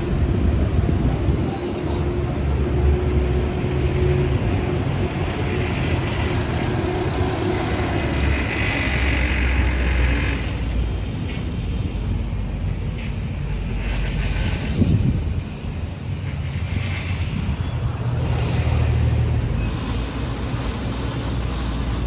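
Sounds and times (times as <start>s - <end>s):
vehicle passing with tyre hiss: 0.0s - 11.1s, 11.9s - 22.0s
vehicle engines rumbling: 0.0s - 22.0s.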